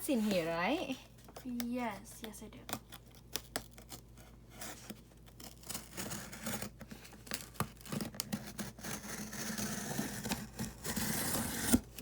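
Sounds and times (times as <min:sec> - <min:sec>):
packaging scraping and crinkling: 0:01.3 - 0:12.0
packing tape tearing: 0:02.2 - 0:12.0.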